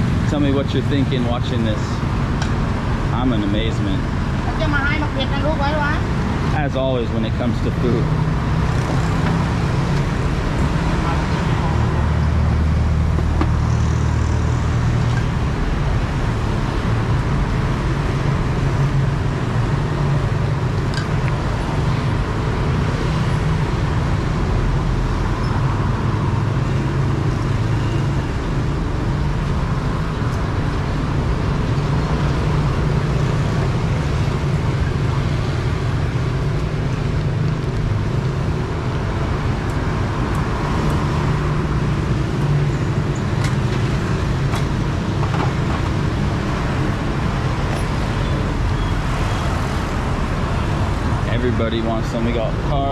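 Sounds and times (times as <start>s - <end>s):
street traffic hum and rumble: 0.0s - 52.9s.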